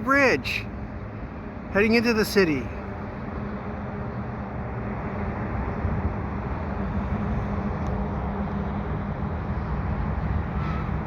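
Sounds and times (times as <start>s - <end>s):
locomotive engine drone: 0.0s - 11.0s.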